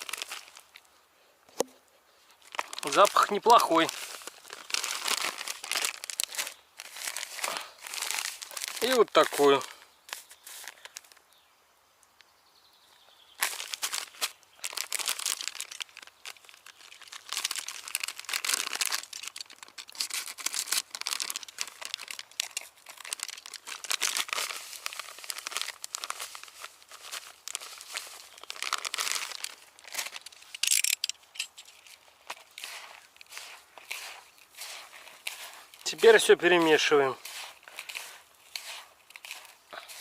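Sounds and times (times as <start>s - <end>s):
plastic packet crinkling: 0.0s - 0.9s, 2.4s - 11.2s, 13.4s - 40.0s.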